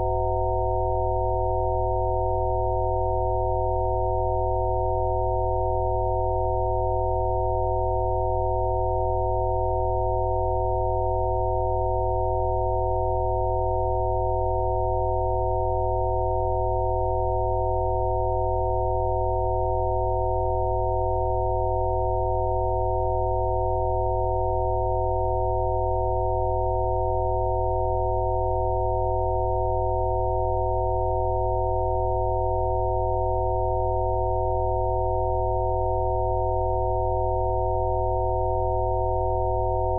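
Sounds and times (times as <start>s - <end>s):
steady electronic sine tones: 0.0s - 39.9s.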